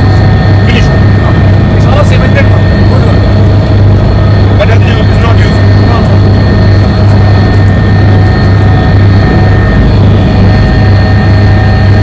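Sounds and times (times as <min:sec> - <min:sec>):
helicopter engine and rotor drone: 0:00.0 - 0:12.0
high whine: 0:00.0 - 0:12.0.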